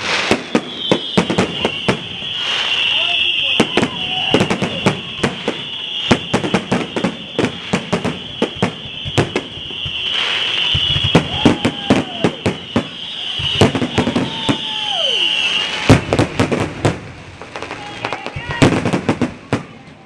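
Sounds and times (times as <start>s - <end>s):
firework whistle falling: 0.0s - 19.8s
fireworks cracking and popping: 0.0s - 20.0s.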